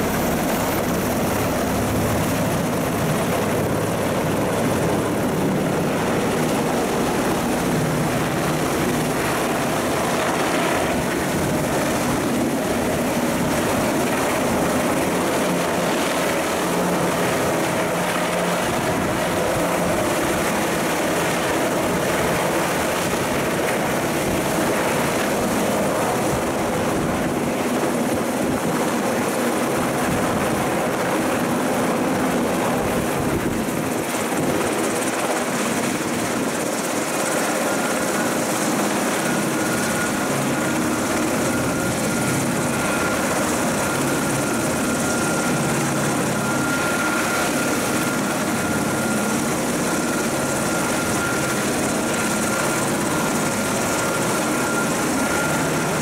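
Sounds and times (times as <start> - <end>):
helicopter rotor and engines: 0.0 - 56.0.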